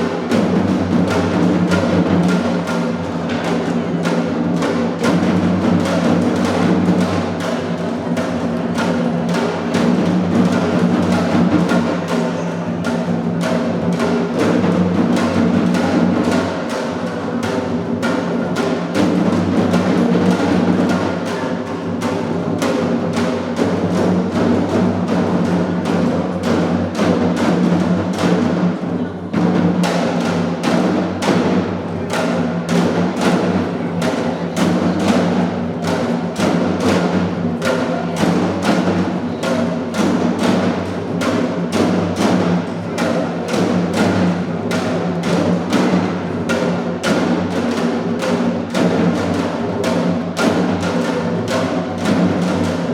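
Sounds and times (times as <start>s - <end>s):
evenly spaced drum strokes: 0.0s - 52.9s.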